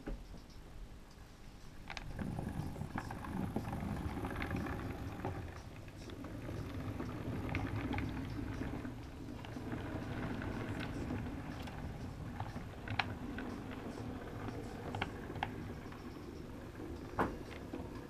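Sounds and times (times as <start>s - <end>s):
wheels clicking on rail joints: 1.6s - 18.0s
model train rumbling: 2.0s - 18.0s.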